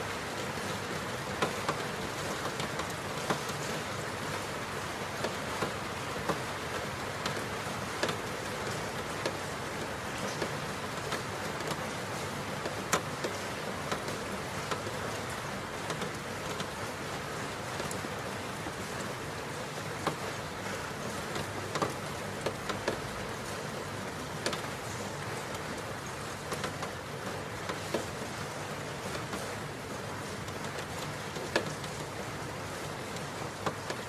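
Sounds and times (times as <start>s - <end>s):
steady rain hiss: 0.0s - 34.0s
sharp raindrop ticks: 0.7s - 4.4s, 5.2s - 12.0s, 12.6s - 16.8s, 17.6s - 28.4s, 30.4s - 34.0s.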